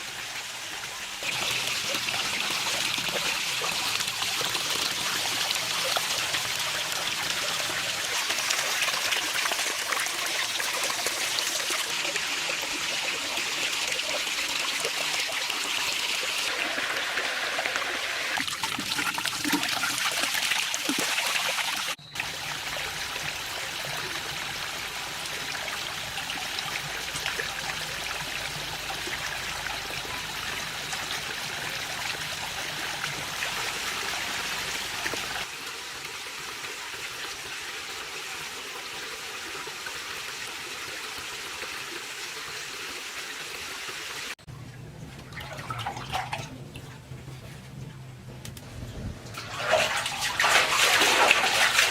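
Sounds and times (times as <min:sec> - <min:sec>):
running water trickling and splashing: 0:00.0 - 0:44.4, 0:49.2 - 0:51.9.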